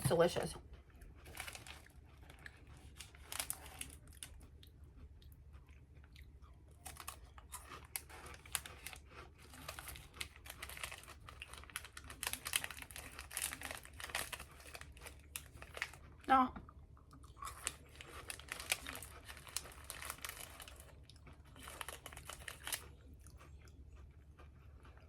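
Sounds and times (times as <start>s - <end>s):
crunching and chewing wafer rolls: 0.6s - 25.0s.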